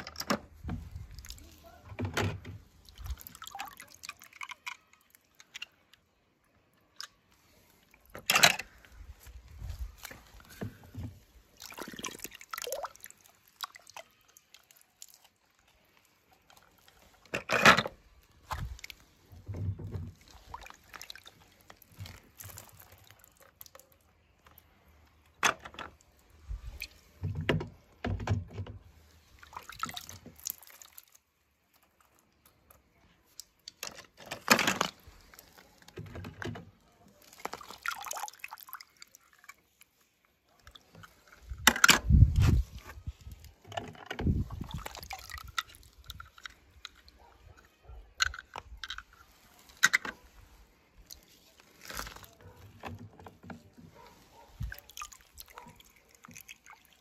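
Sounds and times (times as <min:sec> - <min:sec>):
water sloshing and splashing: 0:00.0 - 0:06.2, 0:07.3 - 0:57.0.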